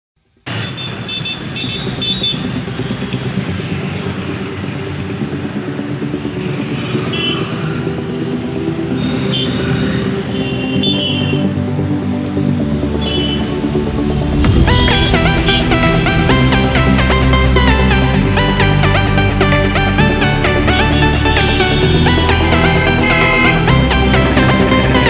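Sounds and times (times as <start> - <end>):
vehicles running past: 0.3 - 25.0.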